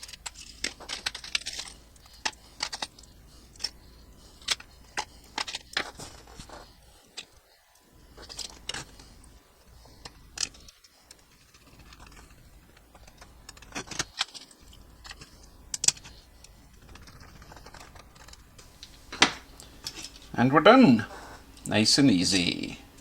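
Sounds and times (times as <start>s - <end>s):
small parts clicking and tapping: 0.0s - 7.4s, 8.1s - 20.3s.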